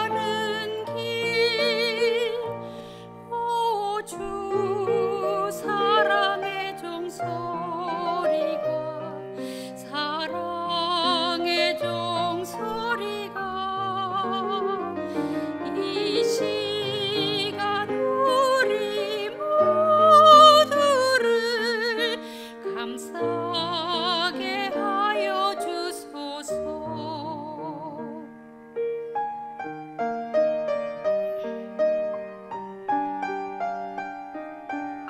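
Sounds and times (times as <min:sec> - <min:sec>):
soprano singing sacred song: 0:00.0 - 0:28.3
piano playing: 0:00.0 - 0:35.0.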